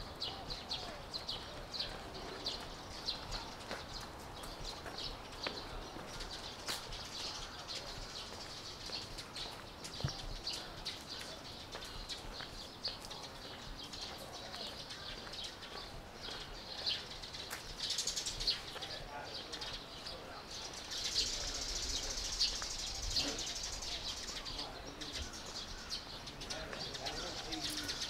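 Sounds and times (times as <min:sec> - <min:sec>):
small birds chirping and twittering: 0:00.0 - 0:28.0.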